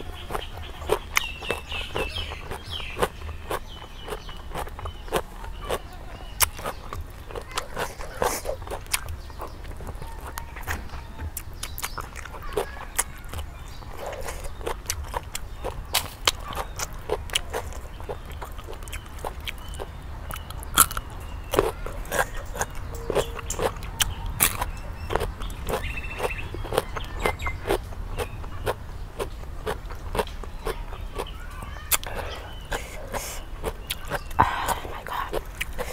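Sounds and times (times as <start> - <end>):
chewing food: 0.0 - 35.9.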